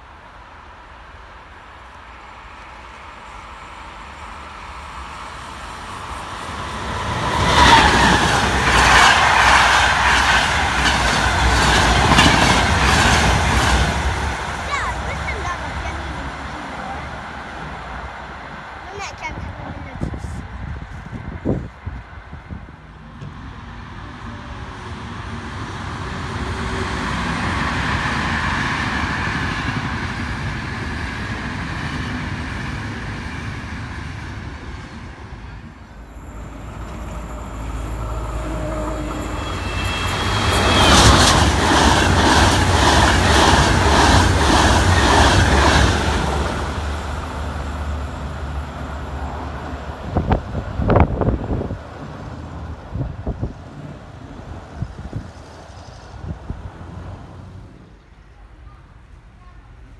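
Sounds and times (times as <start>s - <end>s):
trains passing at speed: 0.0s - 59.9s.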